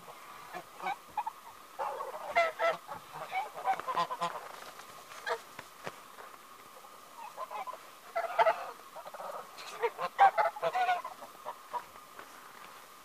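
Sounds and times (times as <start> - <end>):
geese honking: 0.0 - 5.5, 6.8 - 11.9.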